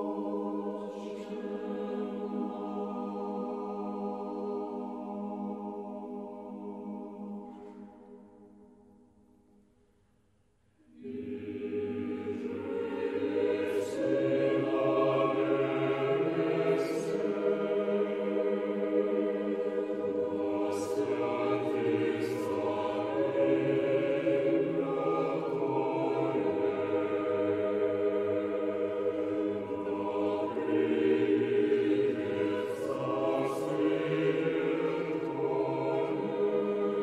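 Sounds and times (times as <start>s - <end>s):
choir singing slow chant: 0.0s - 8.9s, 10.8s - 37.0s.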